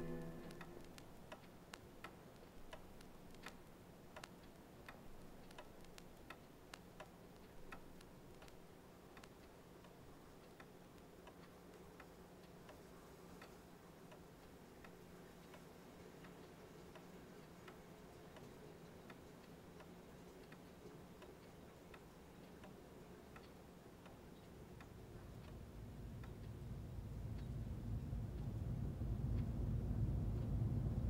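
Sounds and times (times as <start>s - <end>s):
faint ticks: 0.0s - 30.6s
low steady hum: 0.0s - 31.0s.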